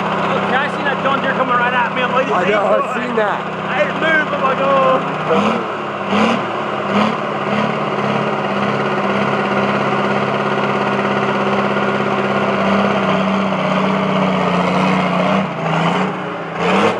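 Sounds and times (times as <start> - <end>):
tractor diesel engine running hard: 0.0 - 16.9.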